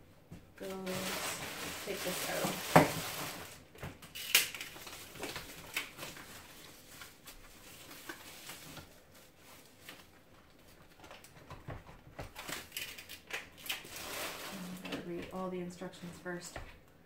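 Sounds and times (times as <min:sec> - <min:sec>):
plastic wrap crinkling: 0:00.6 - 0:16.4.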